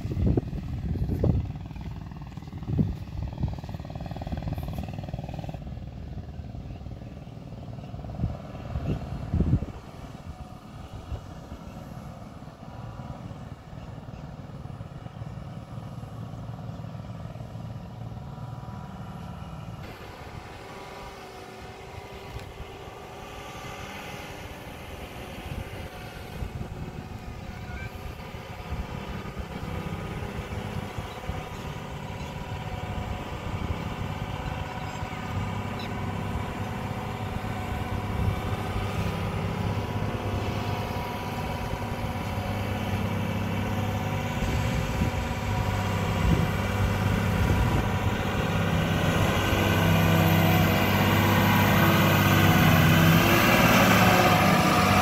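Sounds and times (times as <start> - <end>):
lorry diesel engine running: 0.0 - 55.0.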